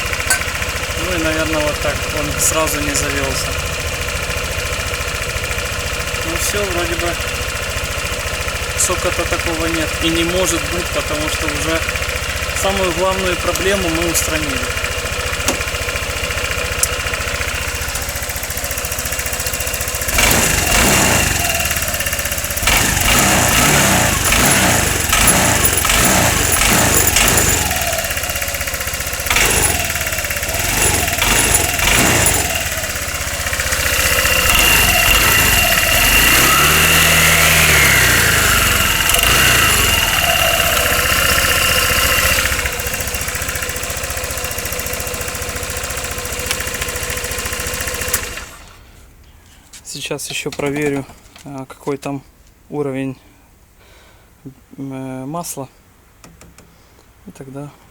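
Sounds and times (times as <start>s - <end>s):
scooter engine revving and idling: 0.0s - 49.4s.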